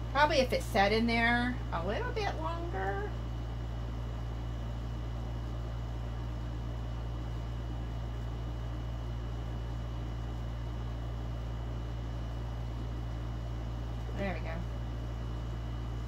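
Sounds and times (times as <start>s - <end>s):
air conditioner low hum: 0.0s - 16.0s.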